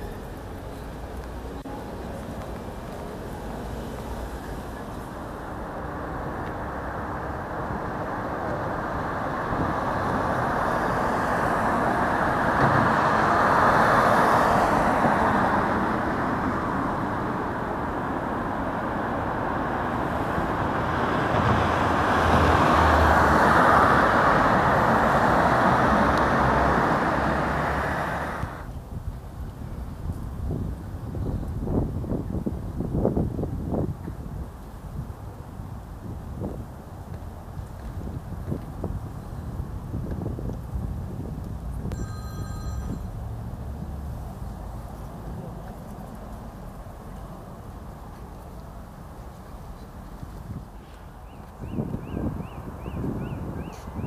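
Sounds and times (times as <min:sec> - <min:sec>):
cars passing: 0:00.0 - 0:28.8, 0:32.4 - 0:54.0.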